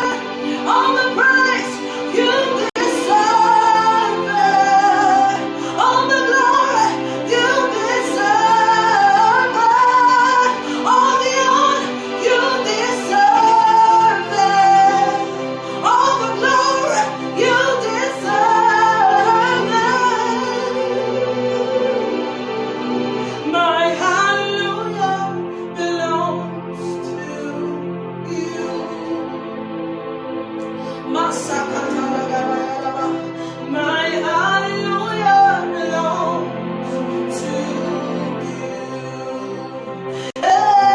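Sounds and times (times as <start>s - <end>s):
woman singing worship song: 0.0s - 29.8s, 30.6s - 40.9s
sustained accompaniment: 0.0s - 40.9s.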